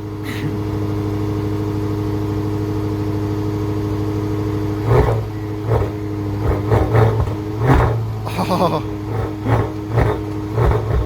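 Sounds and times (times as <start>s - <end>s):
car engine idling: 0.0s - 11.0s
engine throttle blips: 0.0s - 11.0s.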